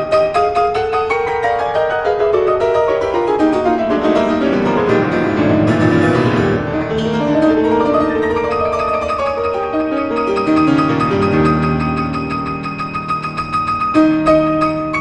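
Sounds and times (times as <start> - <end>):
busy piano music: 0.0 - 15.0.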